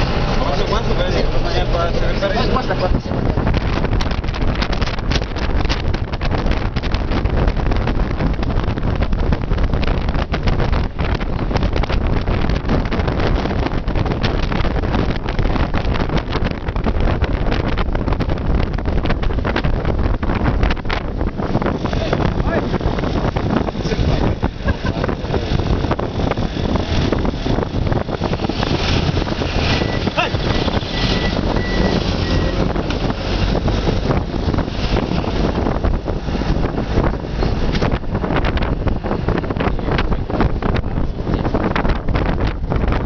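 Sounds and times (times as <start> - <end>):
bus engine and tyres rumbling: 0.0 - 43.0
wind rushing over microphone: 0.0 - 43.0.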